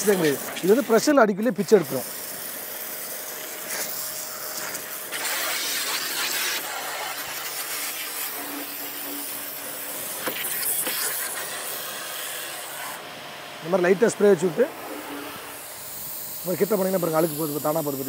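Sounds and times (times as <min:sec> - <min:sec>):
pressure washer water jet hissing: 0:00.0 - 0:18.0.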